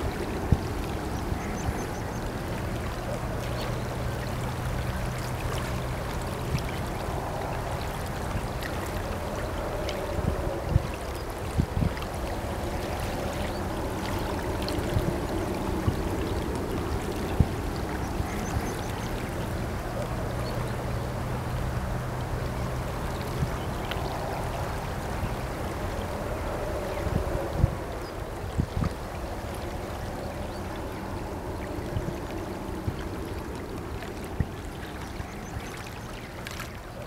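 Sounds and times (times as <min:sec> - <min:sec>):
boat engine drone: 0:00.0 - 0:37.0
rushing water: 0:00.0 - 0:37.0.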